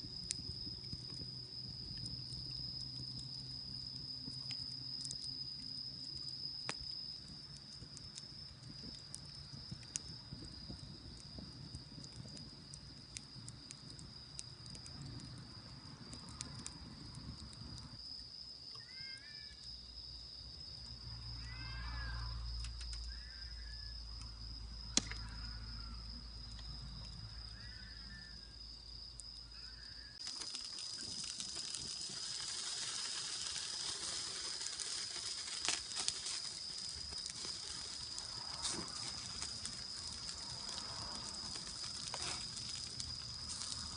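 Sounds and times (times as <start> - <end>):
campfire crackling and popping: 0.0 - 21.7, 22.5 - 23.5, 24.1 - 28.1, 28.9 - 43.9
insect trill: 0.0 - 43.9.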